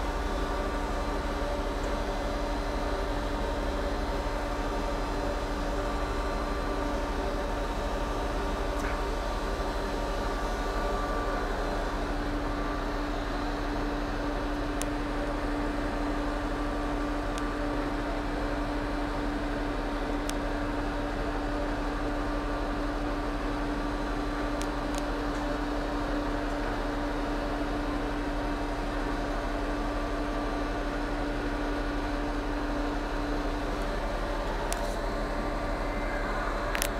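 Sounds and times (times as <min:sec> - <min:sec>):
machinery humming: 0:00.0 - 0:36.9.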